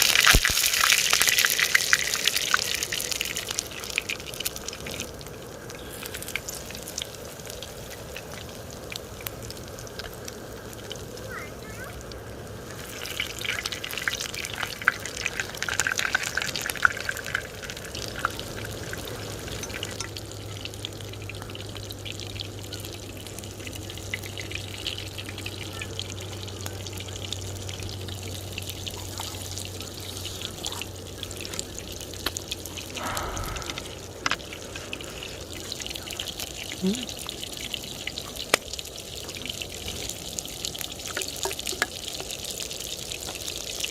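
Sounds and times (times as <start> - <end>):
rain dripping and pattering: 0.0 - 43.9.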